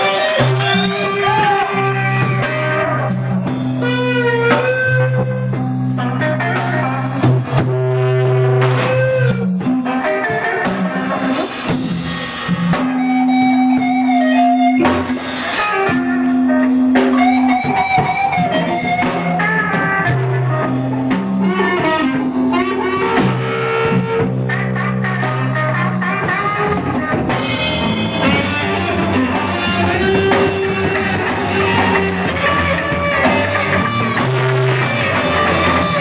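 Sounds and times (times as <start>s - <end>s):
blues-rock band playing: 0.0s - 36.0s.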